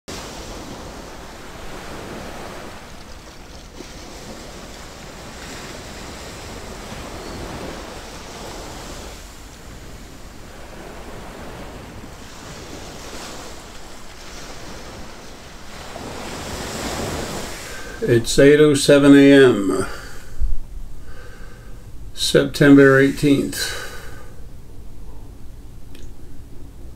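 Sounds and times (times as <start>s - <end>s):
ocean waves washing ashore: 0.1s - 26.9s.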